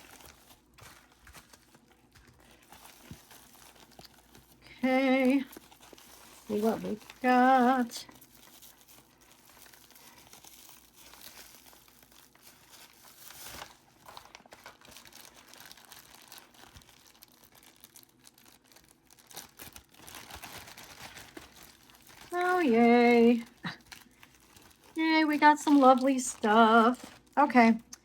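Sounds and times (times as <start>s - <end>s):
packaging crinkling and rustling: 0.0s - 28.0s.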